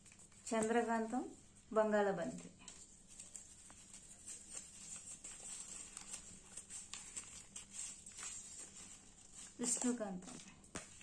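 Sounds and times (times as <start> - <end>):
paper packet rustling and crinkling: 0.0 - 1.3, 2.2 - 11.0.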